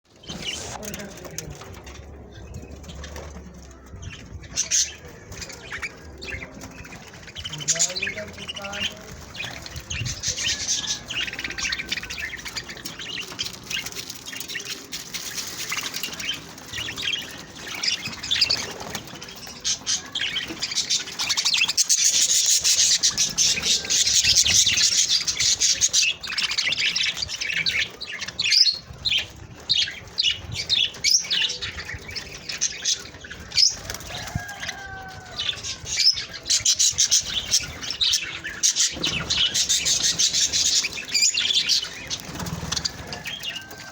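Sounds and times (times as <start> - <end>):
budgerigars chirping and chattering: 0.1 - 43.9.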